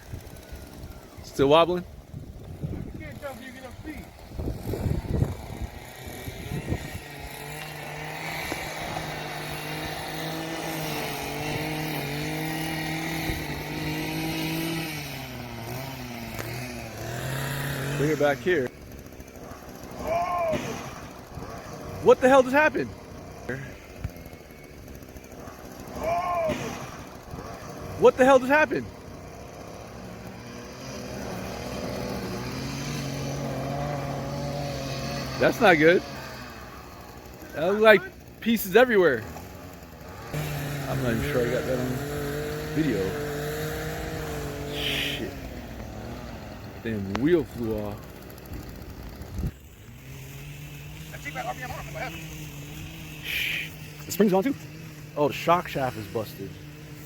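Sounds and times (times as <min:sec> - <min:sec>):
vehicle motor running: 0:00.0 - 0:57.0.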